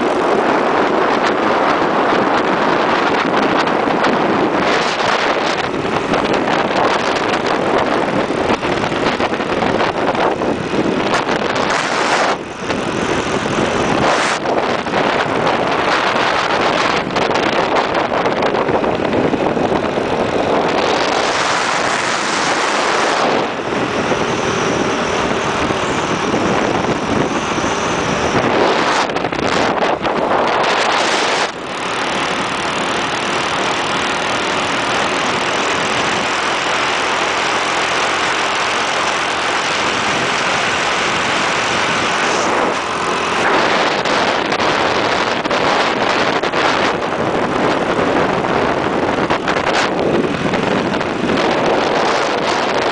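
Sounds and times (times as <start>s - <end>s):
motorbike engine running: 0.0s - 52.9s
wind noise on microphone: 0.0s - 52.9s.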